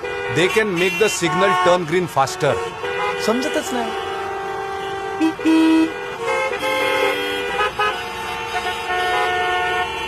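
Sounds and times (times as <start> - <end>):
vehicle horns honking: 0.0 - 10.0.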